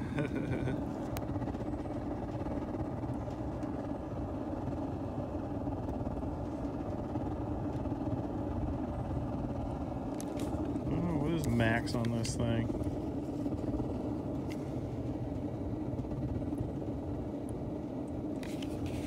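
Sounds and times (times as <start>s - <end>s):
oil heater low rumble: 0.0s - 19.0s.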